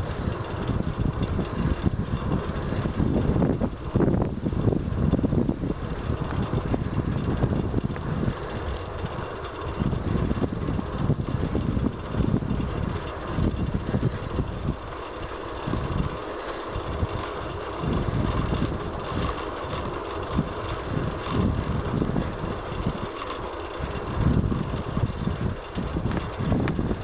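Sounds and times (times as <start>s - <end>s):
steady rushing hiss: 0.0s - 27.0s
wind buffeting microphone: 0.0s - 27.0s.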